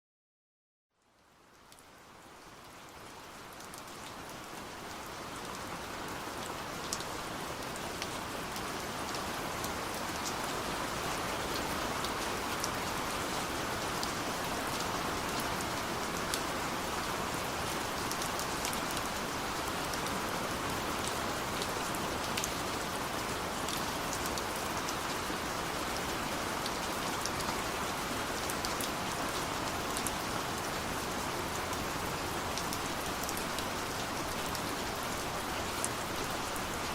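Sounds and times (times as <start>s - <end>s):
steady rain falling: 0.9s - 36.9s.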